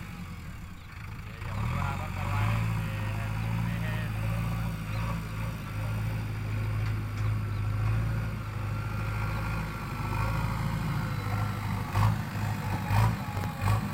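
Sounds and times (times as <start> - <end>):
diesel engine running steadily: 0.0 - 13.9.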